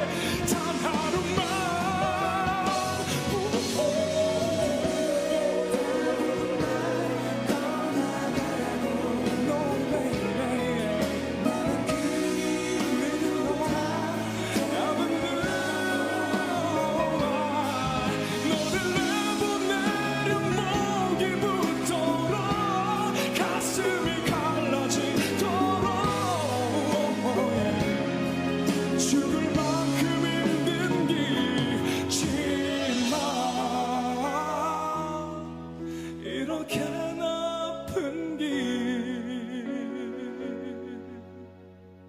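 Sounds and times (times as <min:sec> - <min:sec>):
man singing pop ballad: 0:00.0 - 0:41.8
band accompaniment: 0:00.0 - 0:42.0.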